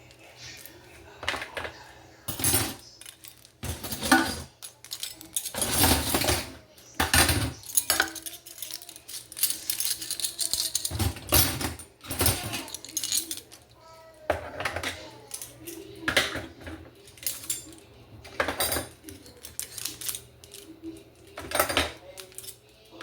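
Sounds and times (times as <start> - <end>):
dishes and cutlery clinking: 0.0 - 23.0.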